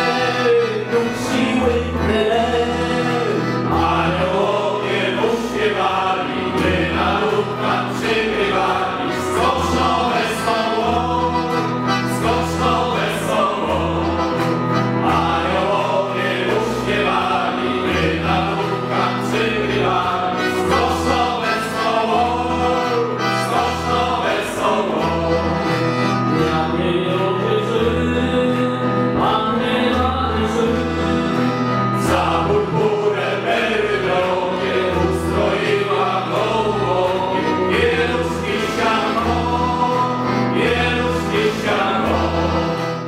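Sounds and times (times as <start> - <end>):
accordion: 0.0 - 43.0
electronic keyboard: 0.0 - 43.0
group singing a carol: 0.0 - 43.0.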